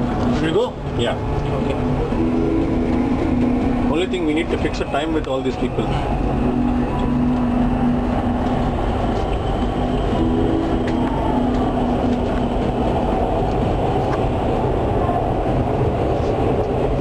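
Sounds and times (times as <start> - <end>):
low hum: 0.0 - 17.0
train rumbling: 0.0 - 17.0.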